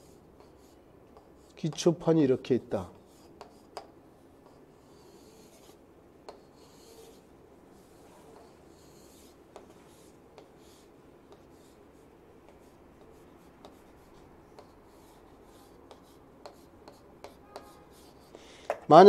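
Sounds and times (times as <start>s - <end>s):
chalk scratching on chalkboard: 0.0s - 1.9s, 2.9s - 18.4s.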